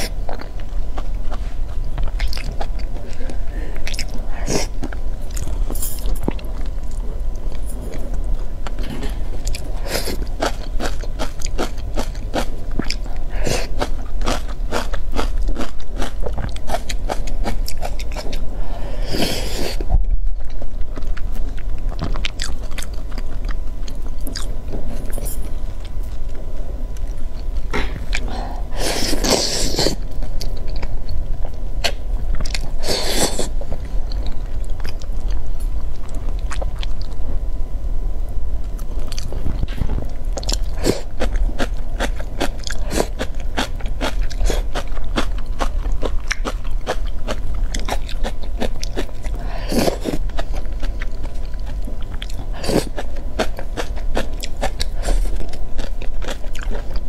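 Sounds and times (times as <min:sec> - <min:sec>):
person chewing saucy meat: 0:00.0 - 0:18.5, 0:20.4 - 0:26.4, 0:27.0 - 0:37.2, 0:40.3 - 0:57.0.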